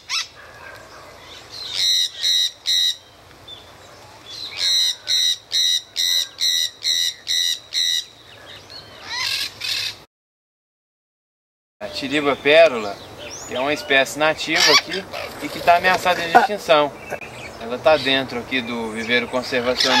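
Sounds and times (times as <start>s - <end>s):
parakeets screeching: 0.0s - 3.0s, 4.4s - 10.0s, 11.8s - 18.2s, 19.0s - 20.0s.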